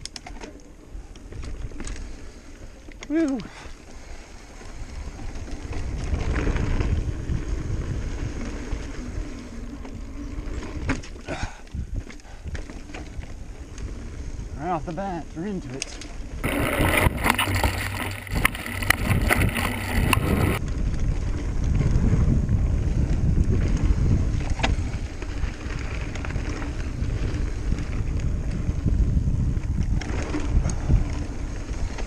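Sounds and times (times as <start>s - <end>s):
bike clicking and rattling: 0.0s - 32.0s
wind buffeting microphone: 3.4s - 14.9s, 16.2s - 32.0s
tyres rumbling over dirt: 4.1s - 14.2s, 16.3s - 32.0s.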